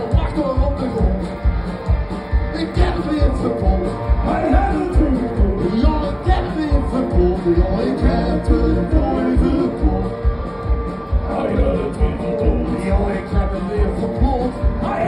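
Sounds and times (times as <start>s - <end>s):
man singing: 0.0s - 1.4s, 2.5s - 10.4s, 11.1s - 15.0s.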